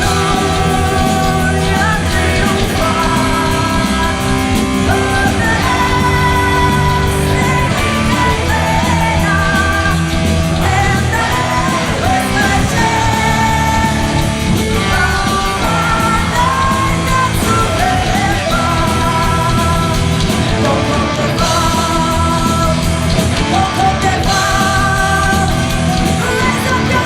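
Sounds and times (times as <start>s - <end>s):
heavy metal band playing: 0.0s - 27.0s
person singing: 0.0s - 27.0s.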